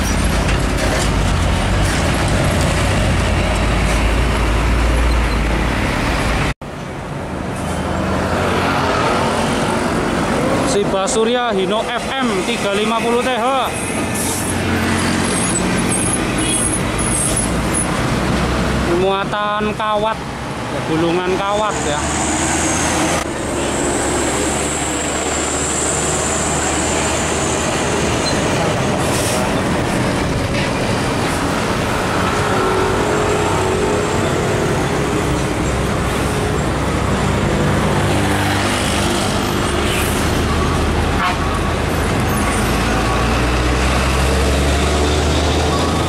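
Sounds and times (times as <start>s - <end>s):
heavy trucks driving past: 0.0s - 46.0s
tyre and traffic noise: 0.0s - 46.0s.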